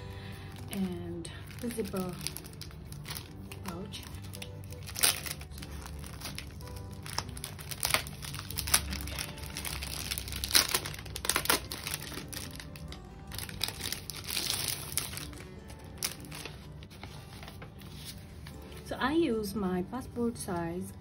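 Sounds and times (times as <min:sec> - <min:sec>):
plastic packaging crinkling: 0:00.0 - 0:18.6
background music: 0:00.0 - 0:21.0.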